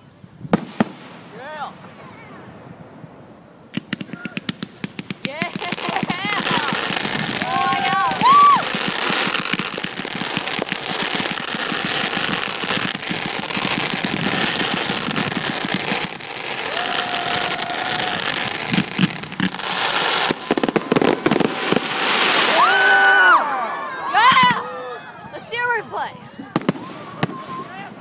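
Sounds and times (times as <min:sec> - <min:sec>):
fireworks crackling: 0:00.0 - 0:23.5, 0:24.1 - 0:24.6, 0:25.4 - 0:28.0
crackling firework burst: 0:00.5 - 0:23.5, 0:26.5 - 0:27.9.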